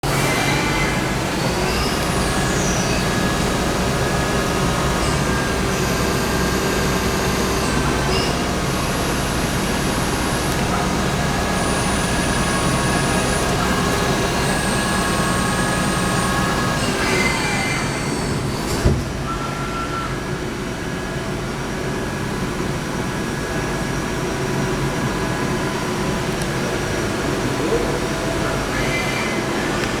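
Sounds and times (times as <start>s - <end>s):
lathe humming and whining: 0.0s - 30.0s.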